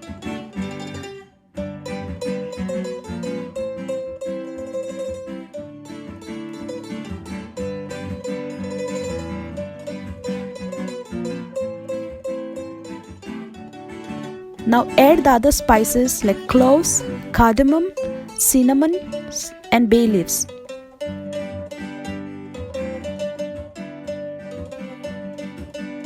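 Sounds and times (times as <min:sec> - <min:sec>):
plucked string music: 0:00.0 - 0:26.0.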